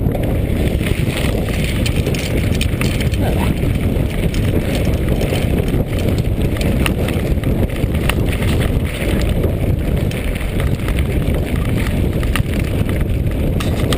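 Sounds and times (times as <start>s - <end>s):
bike rattling over stones: 0.0s - 13.9s
bike tyres rumbling on gravel: 0.0s - 13.9s
wind buffeting microphone: 0.0s - 13.9s.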